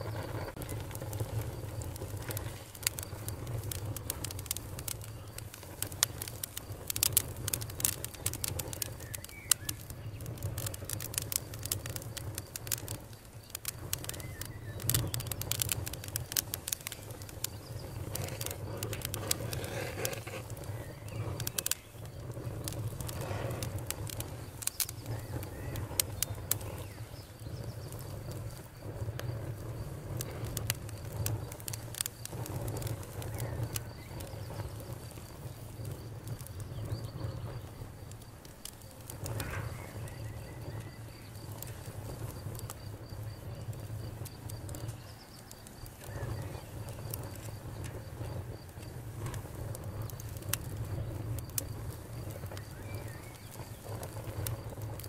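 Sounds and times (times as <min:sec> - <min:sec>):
campfire crackling and popping: 0:00.0 - 0:55.0
crickets chirring: 0:00.0 - 0:55.0.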